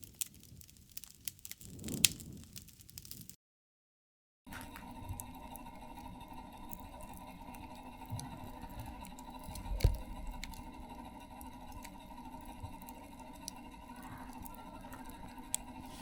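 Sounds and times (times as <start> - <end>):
campfire crackling and popping: 0.0 - 3.4, 4.5 - 16.0.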